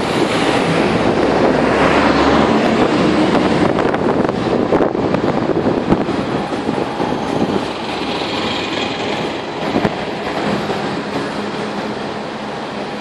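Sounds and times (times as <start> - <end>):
tram wheels on rails: 0.0 - 13.0.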